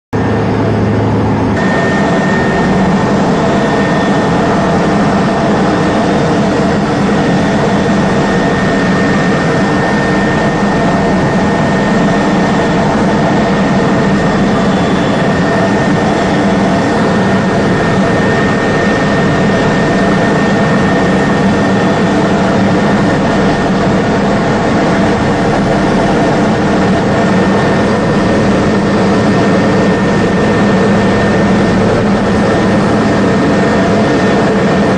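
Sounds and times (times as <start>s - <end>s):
helicopter turbine and rotor noise: 0.1s - 34.9s.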